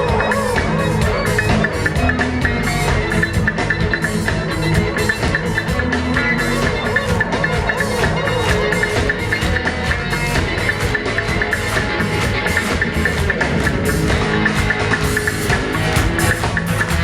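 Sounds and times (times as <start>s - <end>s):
reggae band playing: 0.0s - 17.0s.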